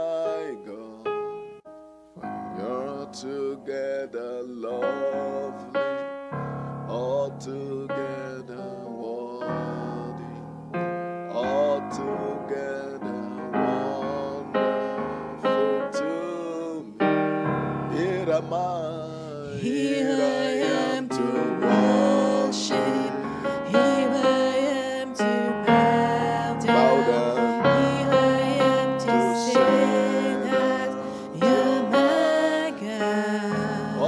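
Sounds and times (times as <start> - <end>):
person singing: 0.0 - 1.4, 2.6 - 6.0, 6.9 - 10.4, 11.3 - 34.0
keyboard playing worship chords: 0.0 - 34.0.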